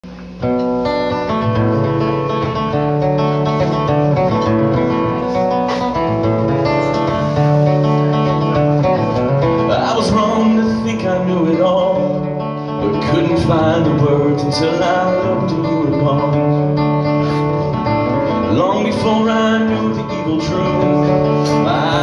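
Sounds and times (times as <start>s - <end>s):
electric guitar playing: 0.0s - 22.0s
strummed acoustic guitar: 0.0s - 22.0s.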